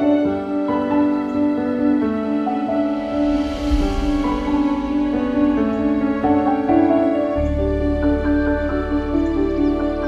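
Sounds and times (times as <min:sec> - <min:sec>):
slow gentle instrumental music: 0:00.0 - 0:10.0.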